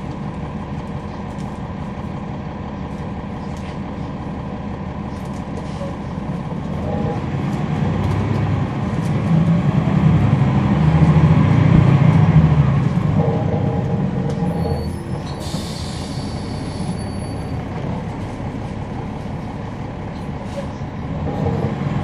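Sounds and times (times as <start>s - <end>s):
bus diesel engine droning: 0.0s - 22.0s.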